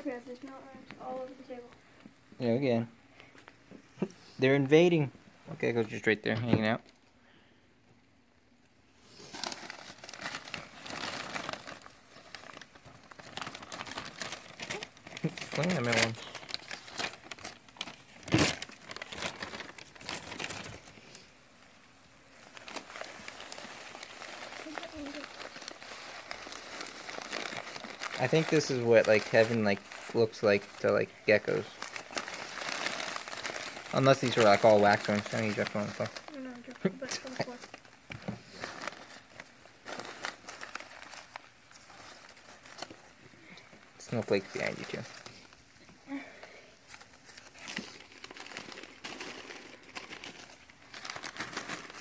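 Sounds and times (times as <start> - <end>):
newspaper rustling and crinkling: 9.1 - 52.0.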